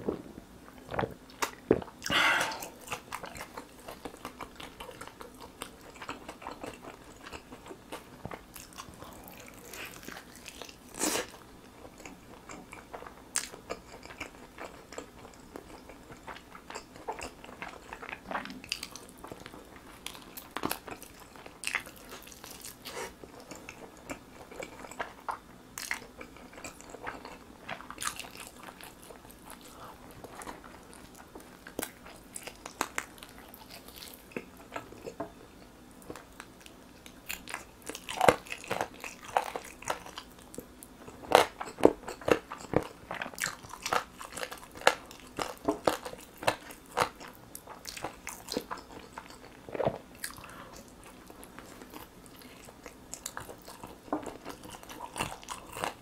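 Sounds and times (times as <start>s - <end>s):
biting and chewing chicken: 0.8s - 35.3s, 36.0s - 56.0s.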